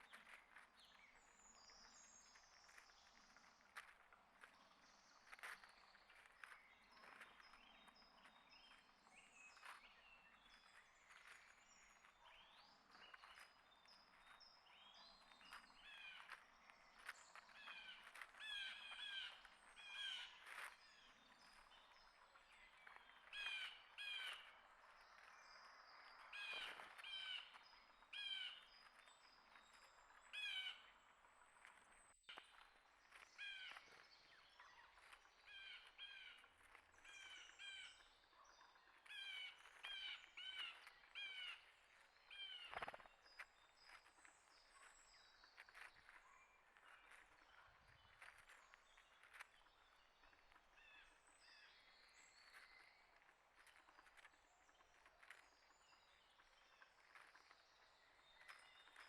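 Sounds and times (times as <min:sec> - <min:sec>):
small birds chipping and whistling: 0:00.0 - 0:59.0.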